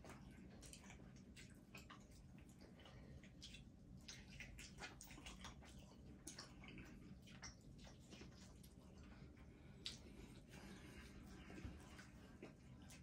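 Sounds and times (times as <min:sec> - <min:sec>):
wet eating smacks: 0:00.0 - 0:13.0.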